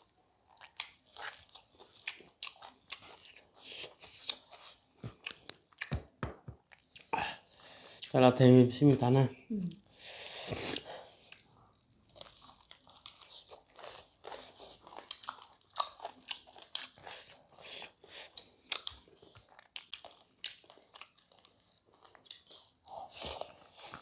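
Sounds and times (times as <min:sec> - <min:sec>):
person chewing and crunching food: 0:00.0 - 0:08.1, 0:09.7 - 0:24.0.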